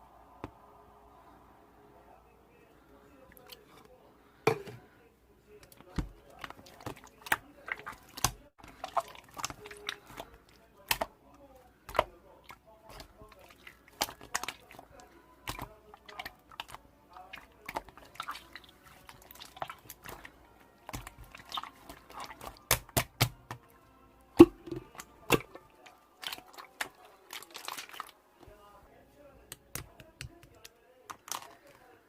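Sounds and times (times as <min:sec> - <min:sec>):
faint background music: 0:00.0 - 0:32.0.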